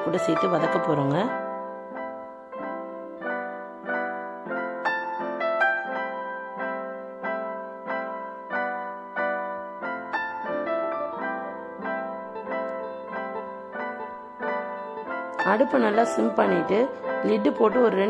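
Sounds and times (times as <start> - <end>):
gentle electric piano melody: 0.0 - 18.0.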